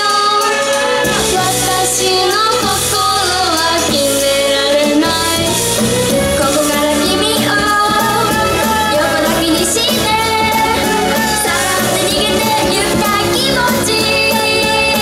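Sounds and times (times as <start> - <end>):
upbeat pop accompaniment: 0.0 - 15.0
women singing pop song: 0.0 - 15.0.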